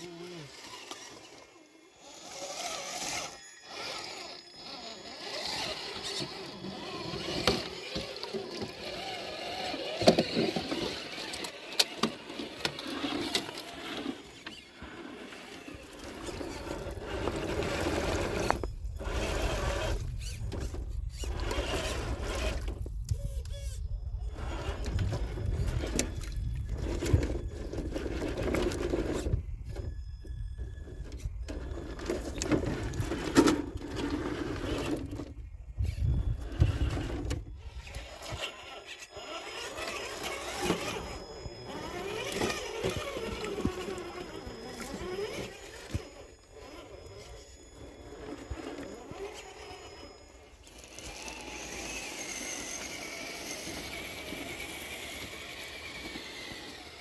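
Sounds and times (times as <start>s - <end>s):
electric motor and gears whirring: 0.0s - 57.0s.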